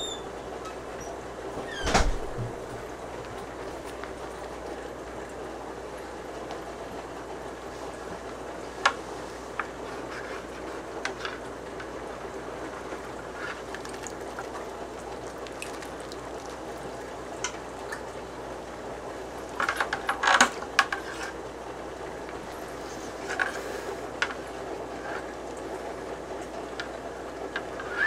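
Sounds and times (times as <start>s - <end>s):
aquarium filter trickling water: 2.5s - 28.0s.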